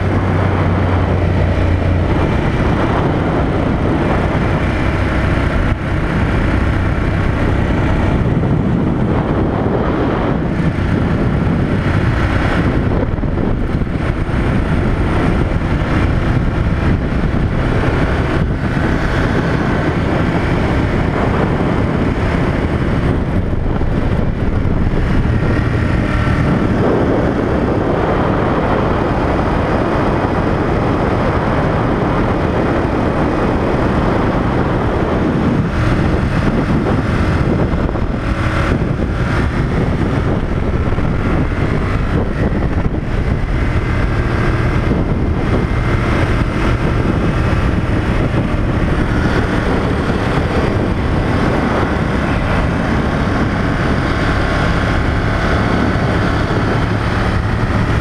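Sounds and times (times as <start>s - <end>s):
motorcycle engine running steadily: 0.0s - 58.0s
wind noise: 0.0s - 58.0s.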